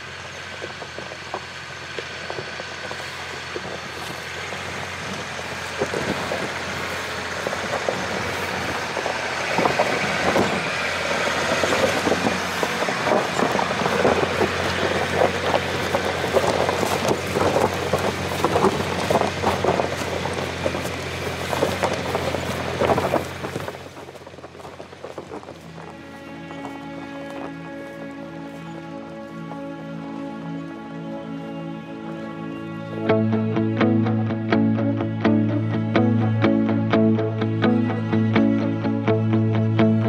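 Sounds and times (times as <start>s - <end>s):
diesel engine pulling uphill: 0.0s - 40.0s.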